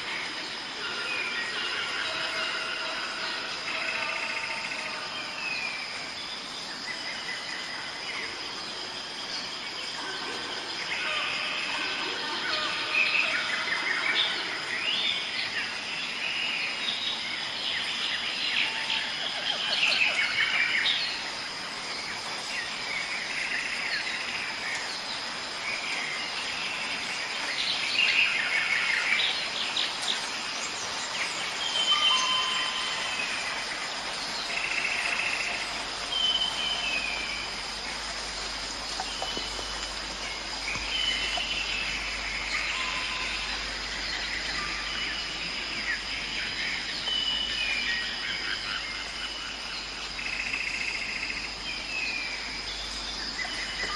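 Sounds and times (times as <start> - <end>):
songbirds singing and chirping: 0.0 - 53.9.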